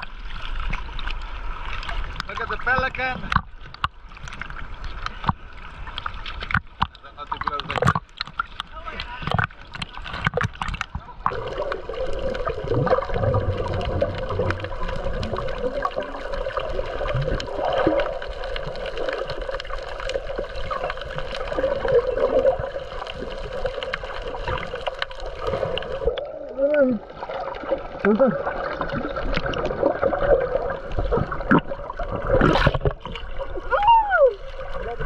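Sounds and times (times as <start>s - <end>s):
small clicks underwater: 0.0s - 28.1s, 28.7s - 33.4s
gurgling bubbles: 0.0s - 35.0s
muffled underwater sloshing: 0.0s - 35.0s.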